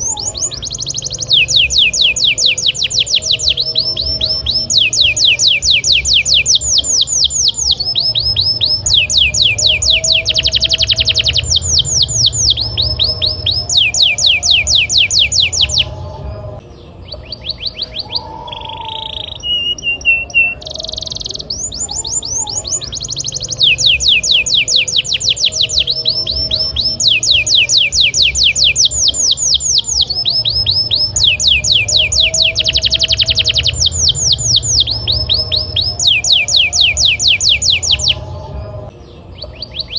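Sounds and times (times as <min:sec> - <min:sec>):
low steady hum: 0:00.0 - 0:17.4, 0:22.1 - 0:39.3
canary singing trills: 0:00.0 - 0:39.9.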